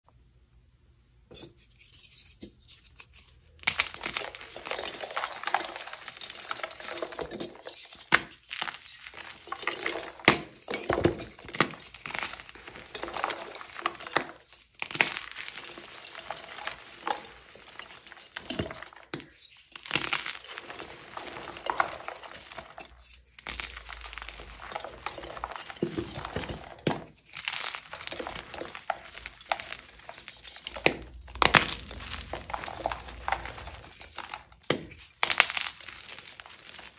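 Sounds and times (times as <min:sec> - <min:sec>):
chalk blocks crunching in hands: 0:01.8 - 0:36.9.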